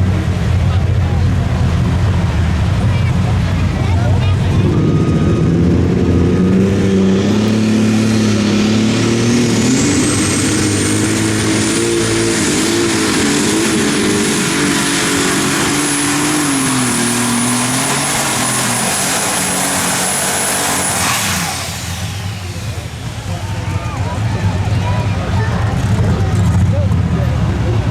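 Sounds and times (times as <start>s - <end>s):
diesel engine running flat out: 0.0s - 27.9s
high turbo whine: 0.0s - 27.9s.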